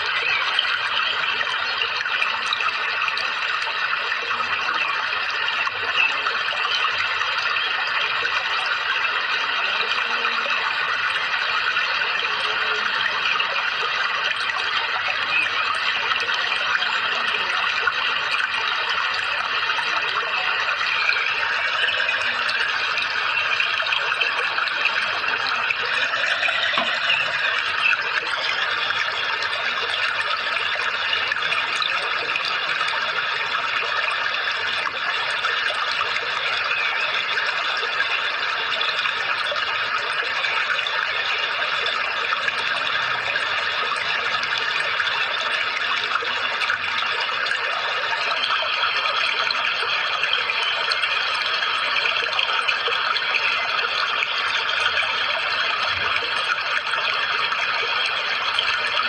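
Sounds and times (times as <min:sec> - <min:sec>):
rushing running water: 0:00.0 - 0:59.0.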